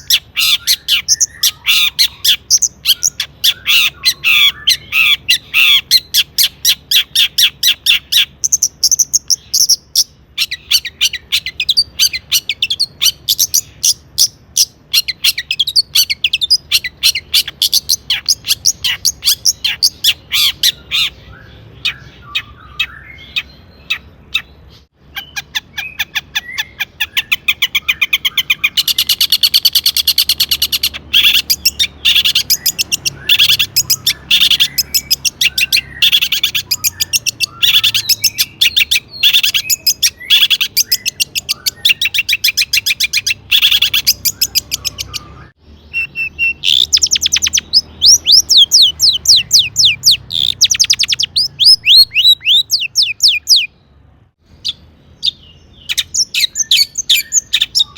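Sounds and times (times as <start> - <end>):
shrike singing: 0.0 - 57.9.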